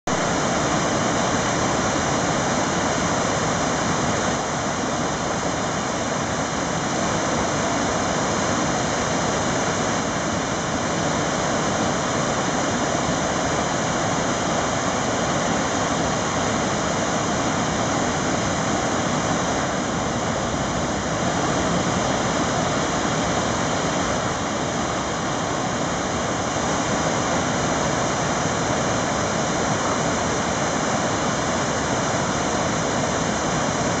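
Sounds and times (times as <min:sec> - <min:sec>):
waterfall roar: 0:00.1 - 0:34.0.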